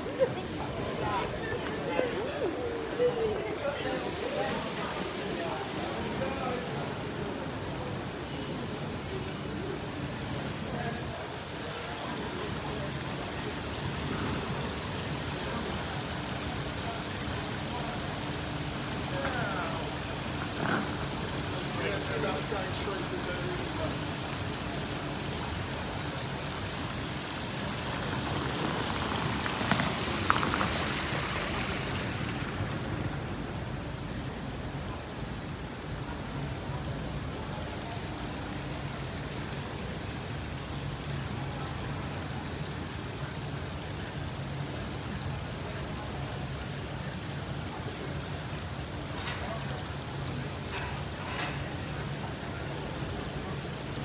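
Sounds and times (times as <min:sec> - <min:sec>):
water splashing over weirs: 0:00.0 - 0:54.0.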